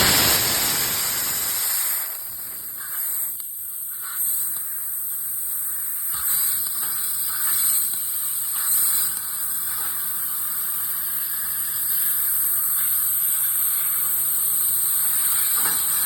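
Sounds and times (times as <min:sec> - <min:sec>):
laser cutter air hissing: 0:00.0 - 0:16.0.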